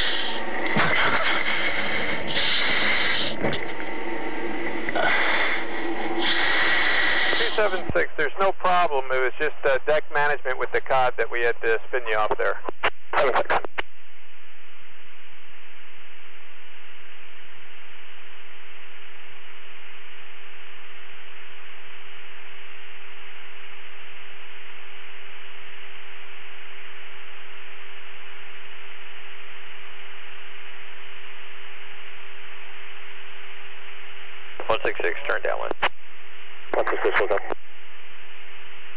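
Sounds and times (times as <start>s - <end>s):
constant hum tone: 0.0s - 38.9s
radio static hiss: 0.0s - 38.9s.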